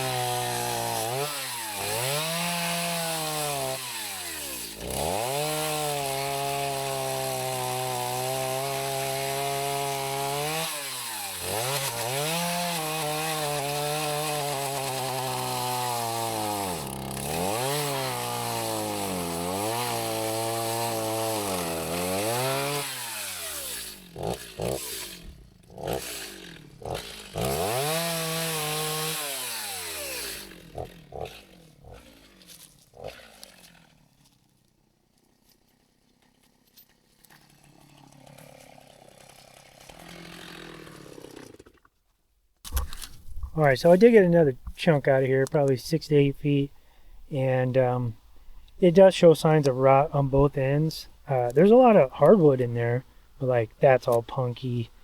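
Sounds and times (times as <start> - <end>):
chainsaw cutting log: 0.0 - 41.9, 42.6 - 55.0.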